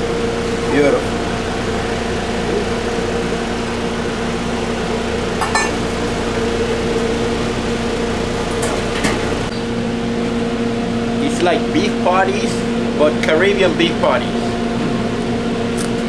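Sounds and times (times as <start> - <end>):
kitchen equipment humming: 0.0 - 16.0.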